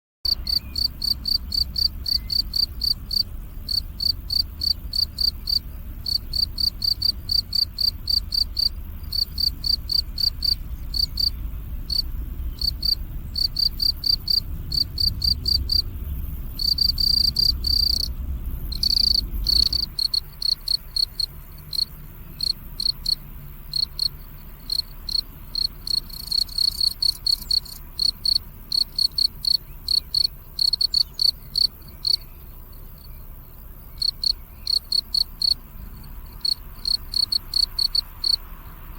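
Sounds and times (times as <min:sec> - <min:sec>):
cricket chirping: 0:00.3 - 0:38.9.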